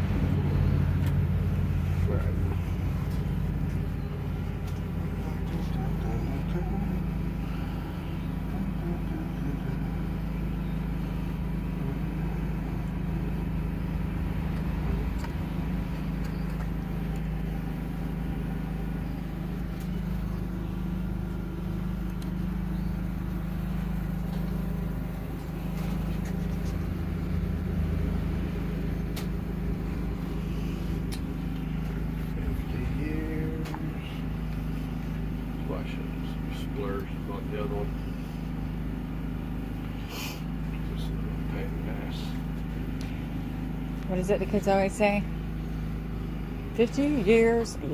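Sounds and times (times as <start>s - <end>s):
motor running steadily: 0.0s - 47.9s.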